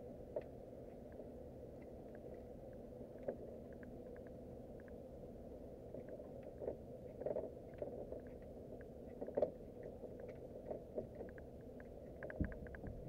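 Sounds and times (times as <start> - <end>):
faint ticks and clicks: 0.0 - 13.0
steady low hum: 0.0 - 13.0.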